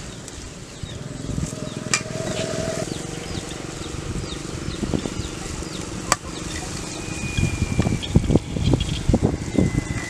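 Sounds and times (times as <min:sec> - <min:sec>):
bird chirping: 0:00.0 - 0:10.0
outdoor background noise: 0:00.0 - 0:10.0.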